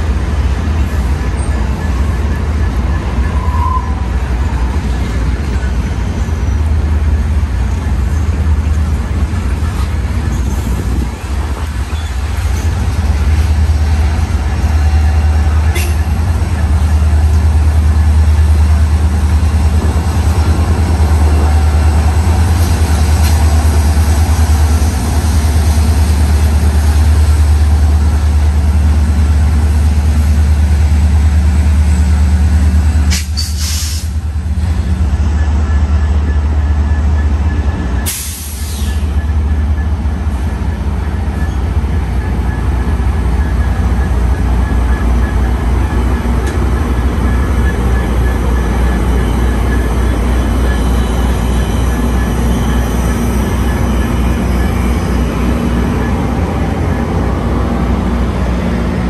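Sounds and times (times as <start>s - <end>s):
train low hum: 0.0s - 59.0s.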